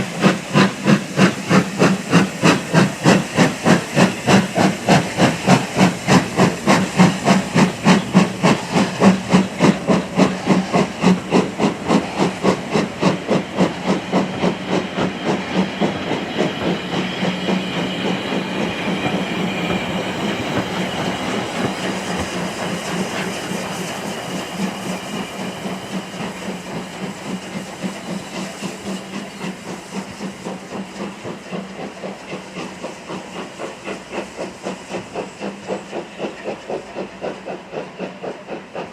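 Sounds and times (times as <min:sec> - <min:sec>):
steam locomotive exhaust beating: 0:00.0 - 0:38.9.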